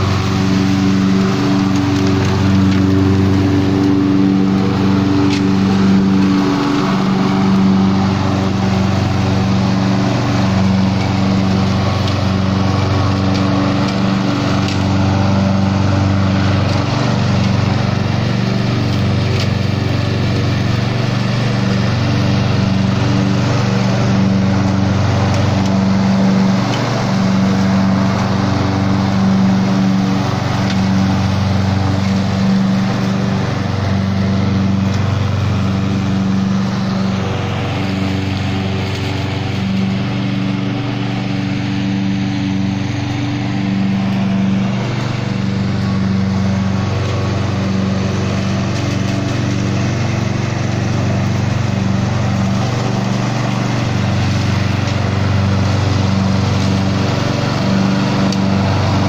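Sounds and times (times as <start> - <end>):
ride-on mower engine hum: 0.0 - 59.0.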